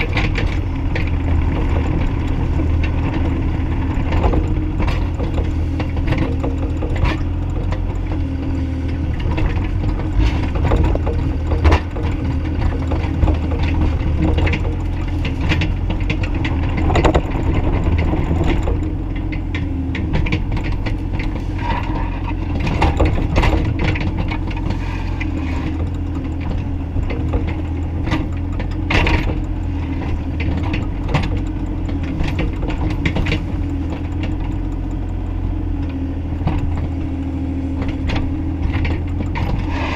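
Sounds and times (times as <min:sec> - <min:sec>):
excavator clanks and knocks: 0:00.0 - 0:39.9
excavator diesel engine running: 0:00.0 - 0:39.9.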